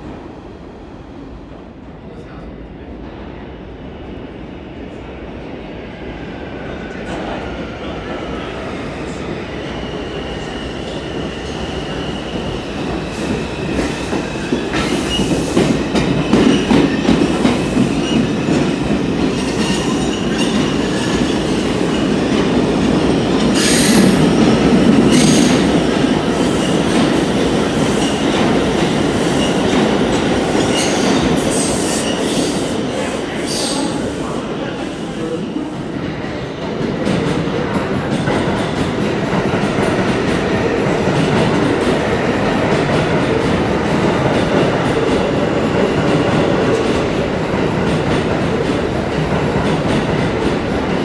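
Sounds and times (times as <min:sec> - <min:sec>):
subway train wheels rumbling: 0:00.0 - 0:51.0.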